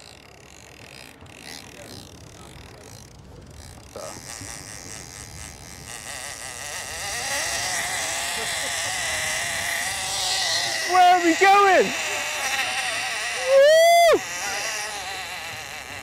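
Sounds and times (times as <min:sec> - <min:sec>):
fishing reel drag buzzing: 0:00.0 - 0:16.0
sea noise: 0:00.0 - 0:16.0
wind: 0:00.0 - 0:16.0.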